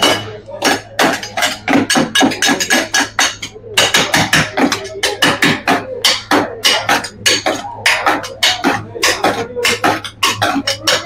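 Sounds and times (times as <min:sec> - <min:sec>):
metal spatulas clanking on steel plate: 0:00.0 - 0:11.0.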